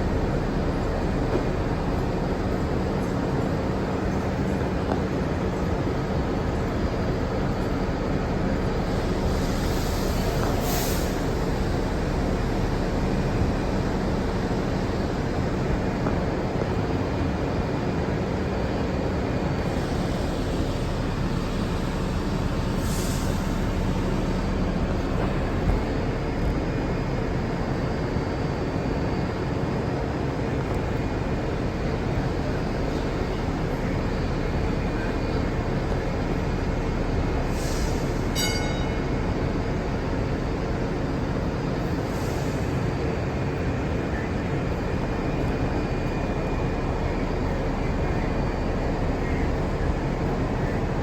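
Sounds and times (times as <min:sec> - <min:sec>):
subway car rumbling on track: 0:00.0 - 0:51.0.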